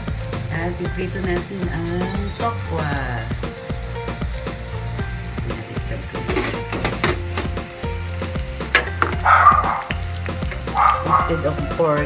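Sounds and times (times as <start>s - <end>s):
background music: 0.0s - 12.0s
tofu sizzling in oil: 0.0s - 12.0s.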